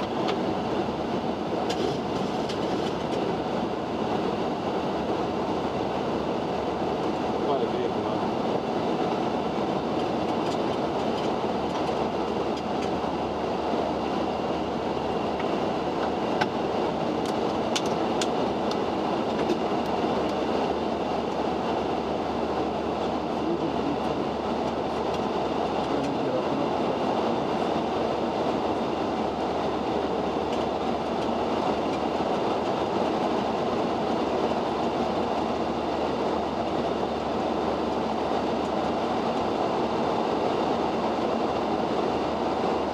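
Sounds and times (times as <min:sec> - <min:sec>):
airflow and engine noise: 0:00.0 - 0:42.9.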